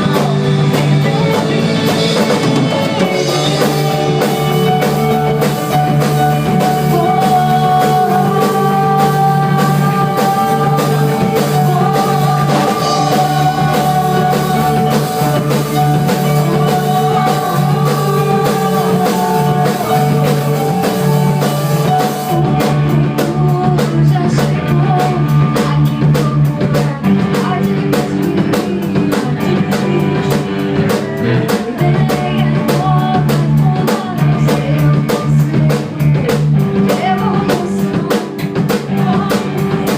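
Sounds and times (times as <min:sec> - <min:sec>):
drum kit beats: 0:00.0 - 0:39.9
rock band playing: 0:00.0 - 0:39.9.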